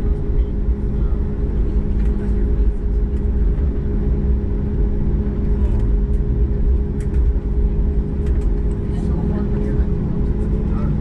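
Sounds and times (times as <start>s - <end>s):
jet engines humming from cabin: 0.0s - 11.0s.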